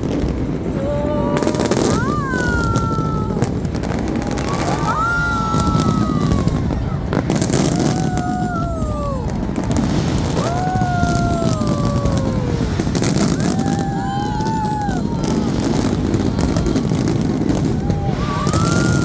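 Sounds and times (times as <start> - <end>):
crowd din: 0.0 - 19.0
fireworks cracking: 0.0 - 19.0.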